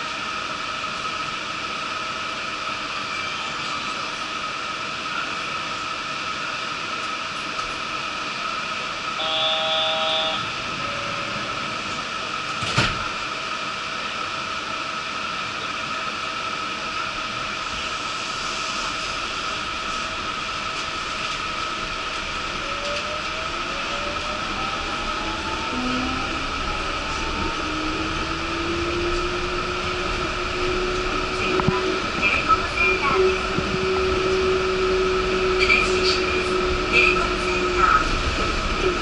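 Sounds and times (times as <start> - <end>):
train equipment hum: 0.0 - 39.0.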